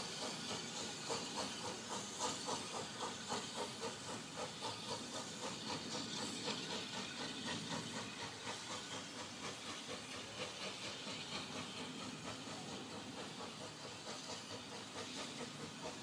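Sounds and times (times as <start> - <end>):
steam hissing: 0.0 - 16.0
steam locomotive chuffing: 0.0 - 16.0.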